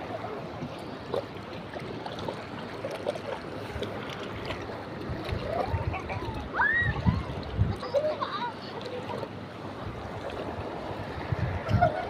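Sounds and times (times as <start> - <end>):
shallow sea water washing: 0.0 - 12.0.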